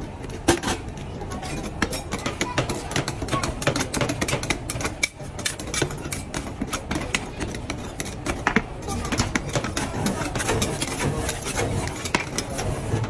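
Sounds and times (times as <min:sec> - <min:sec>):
metal spatulas scraping and tapping: 0:00.4 - 0:13.0.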